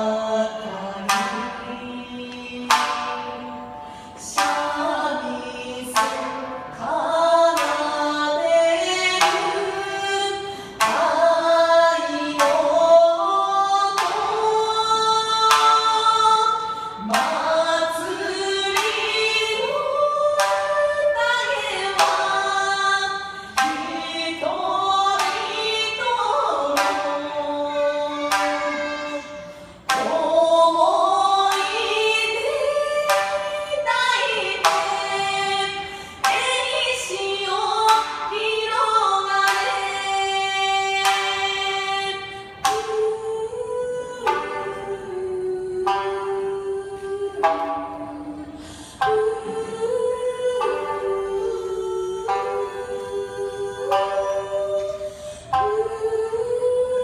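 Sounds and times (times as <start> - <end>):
shamisen plucking: 0.0 - 57.0
two women singing: 0.0 - 57.0.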